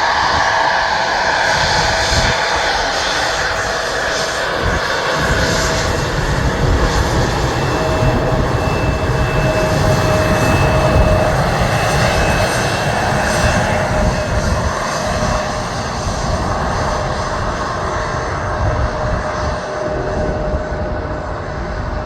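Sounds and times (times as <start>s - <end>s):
airliner engines rumbling: 0.0s - 22.0s.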